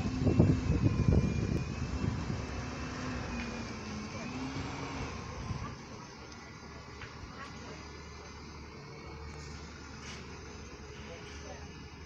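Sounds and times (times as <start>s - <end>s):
bus engine pulling away: 0.0s - 12.0s.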